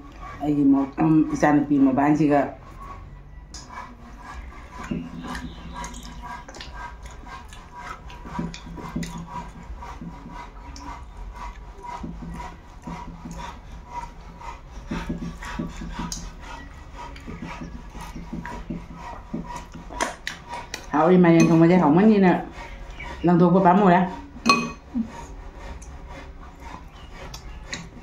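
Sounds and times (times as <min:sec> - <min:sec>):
person chewing food: 0:02.8 - 0:21.8, 0:24.2 - 0:28.0.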